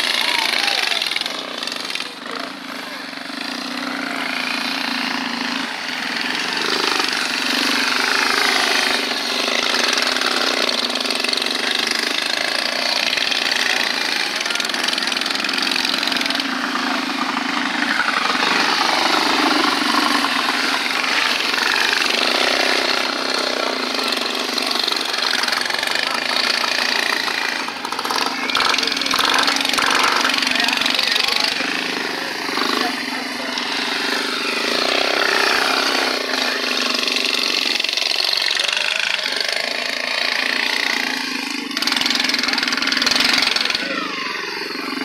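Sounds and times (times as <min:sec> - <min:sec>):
mini bike engines racing: 0:00.0 - 0:45.0.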